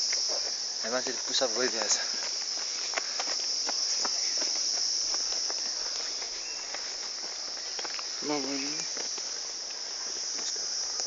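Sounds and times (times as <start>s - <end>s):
footsteps on a path: 0.0s - 11.0s
insects droning: 0.0s - 11.0s.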